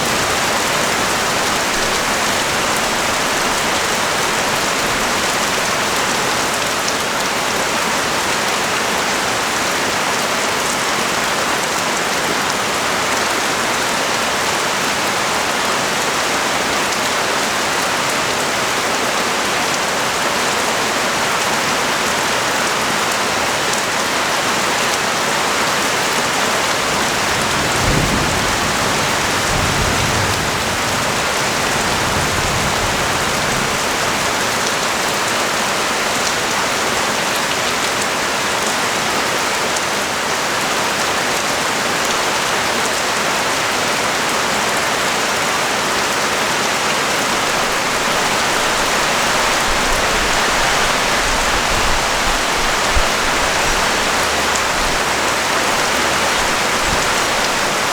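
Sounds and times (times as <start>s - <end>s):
rain falling on a street: 0.0s - 57.9s.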